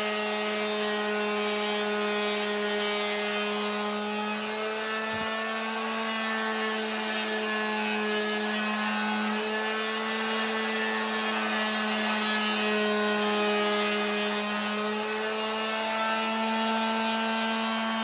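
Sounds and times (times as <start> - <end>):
palm sander sanding wood: 0.0 - 18.0.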